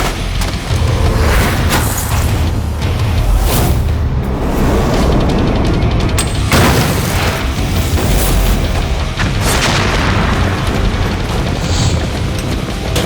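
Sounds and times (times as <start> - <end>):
continuous low rumble: 0.0 - 13.0
explosions: 0.0 - 13.0
music playing: 0.0 - 13.0.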